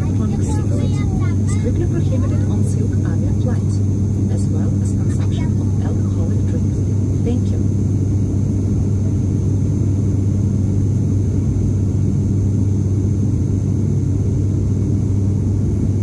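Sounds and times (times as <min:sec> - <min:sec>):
propeller low hum: 0:00.0 - 0:16.0
turboprop engine drone: 0:00.0 - 0:16.0.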